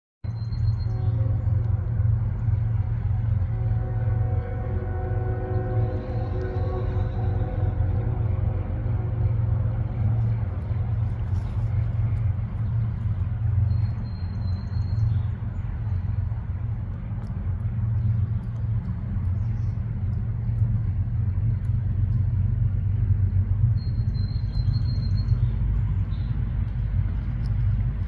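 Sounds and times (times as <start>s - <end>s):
low outdoor rumble: 0.2s - 28.0s.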